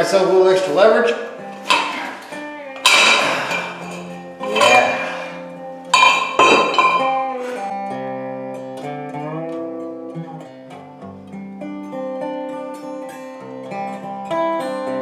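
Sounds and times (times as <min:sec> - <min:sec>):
guitar ringing sliding notes: 0:00.0 - 0:15.0
guitar strummed chords: 0:00.0 - 0:15.0.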